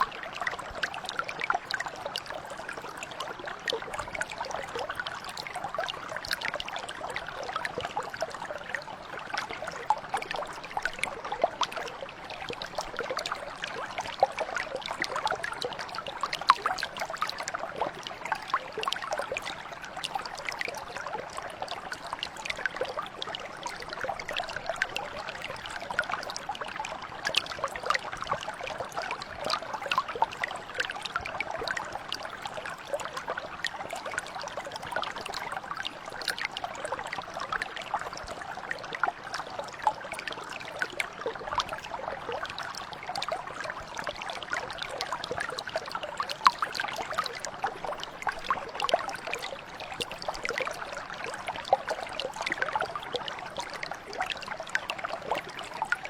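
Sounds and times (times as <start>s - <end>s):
brook babbling: 0.0s - 56.0s.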